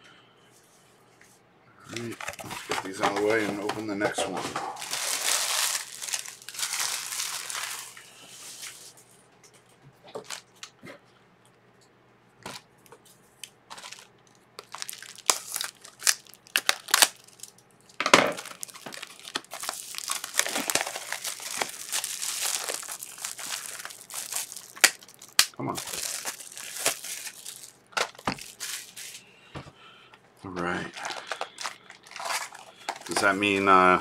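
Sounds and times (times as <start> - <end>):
plastic wrapping crinkling: 1.9 - 9.0, 10.1 - 10.7, 12.4 - 29.2, 30.7 - 34.0.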